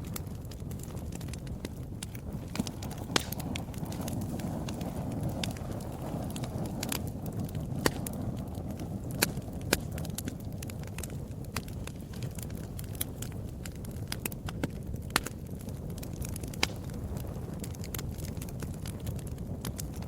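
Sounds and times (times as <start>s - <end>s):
burning wood crackling: 0.0s - 20.0s
fire rumbling in a fireplace: 0.0s - 20.0s.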